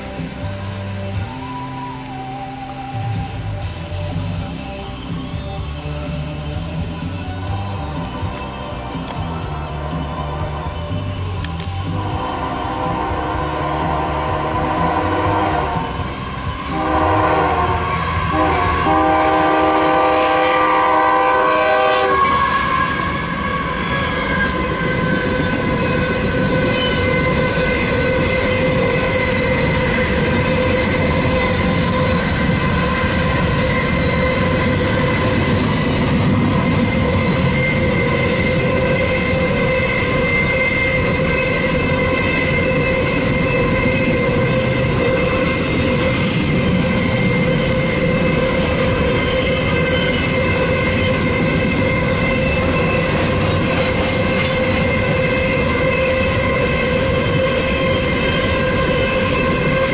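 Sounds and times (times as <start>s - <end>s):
train wheels on rails: 0.0s - 59.9s
locomotive horn chord: 7.3s - 59.9s.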